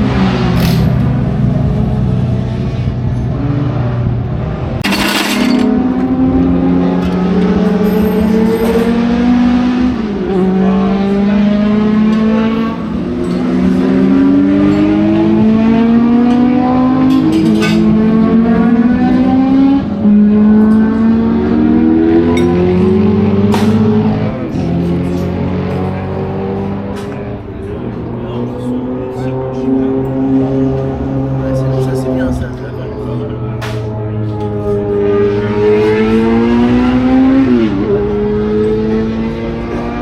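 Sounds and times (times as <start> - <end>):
racing car engine accelerating: 0.0 - 40.0.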